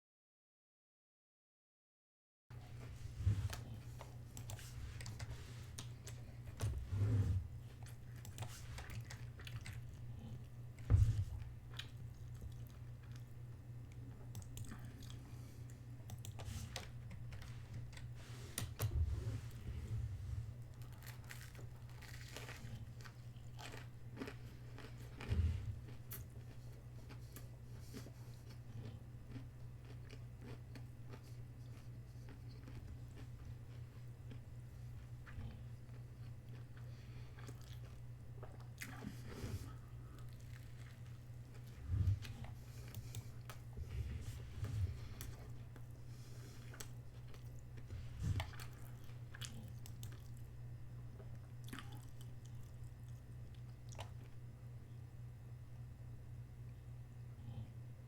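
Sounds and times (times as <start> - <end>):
steady low hum: 2.5 - 58.0
person chewing food: 7.6 - 54.4.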